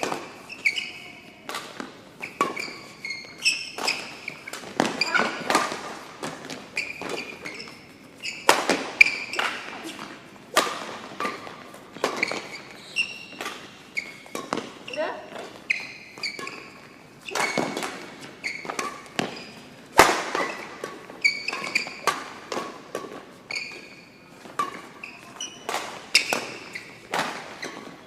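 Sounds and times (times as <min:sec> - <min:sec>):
rackets hitting shuttlecock: 0:00.0 - 0:28.0
shoes squeaking on floor: 0:00.0 - 0:28.0.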